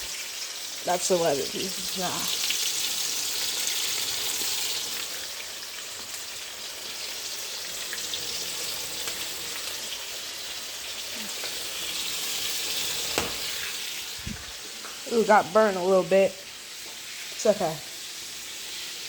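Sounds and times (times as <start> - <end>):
chicken frying in oil: 0.0 - 19.0.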